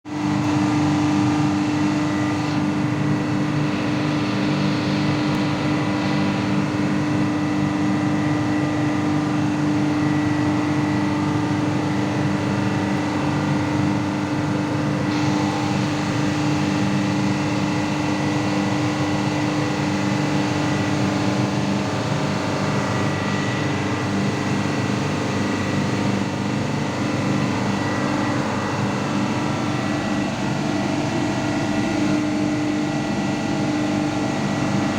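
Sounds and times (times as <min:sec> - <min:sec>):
high machinery whine: 0:00.1 - 0:34.9.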